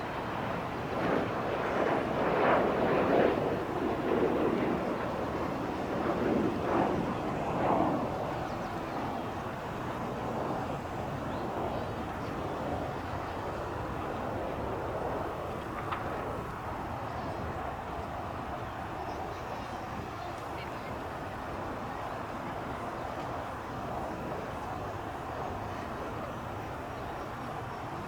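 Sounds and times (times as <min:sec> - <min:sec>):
jet airliner engine: 0:00.0 - 0:28.0.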